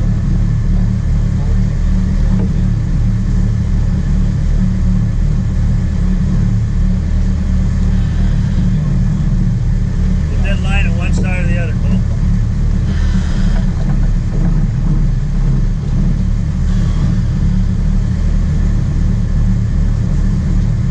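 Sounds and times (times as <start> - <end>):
boat engine droning: 0.0 - 20.9.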